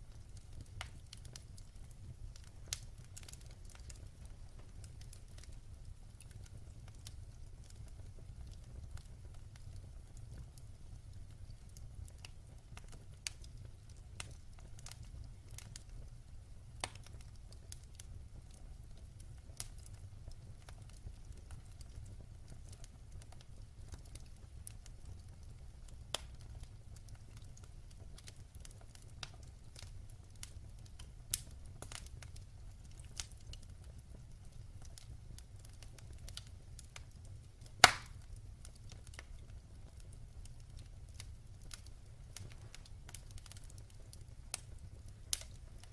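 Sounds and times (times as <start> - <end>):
fire low rumble: 0.0 - 45.9
wood fire crackling and popping: 0.0 - 45.9.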